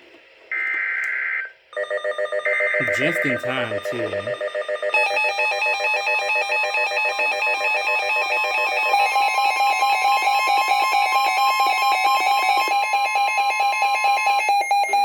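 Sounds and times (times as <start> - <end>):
pulsing electronic alarm: 0.6 - 15.0.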